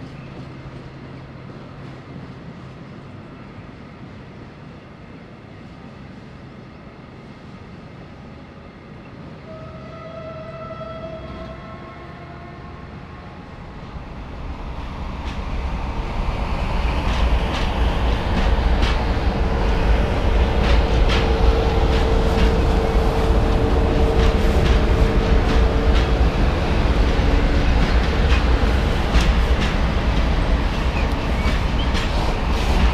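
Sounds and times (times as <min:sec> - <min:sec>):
diesel locomotive engine rumble: 0:00.0 - 0:32.9.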